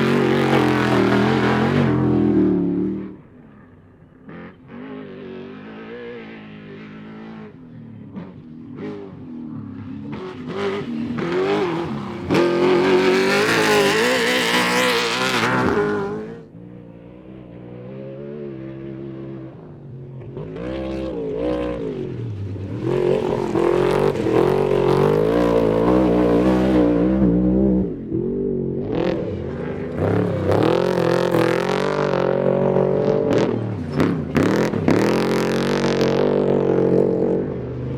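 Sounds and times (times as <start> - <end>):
truck engines racing past: 0.0 - 37.9.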